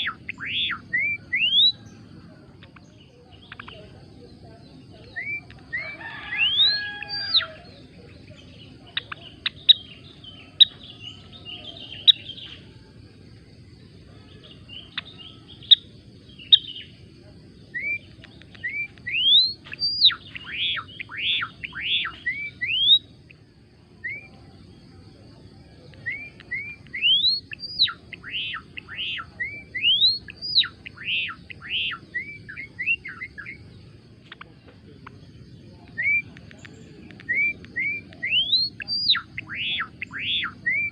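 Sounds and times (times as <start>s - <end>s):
songbird chirping and singing: 0.0s - 40.9s.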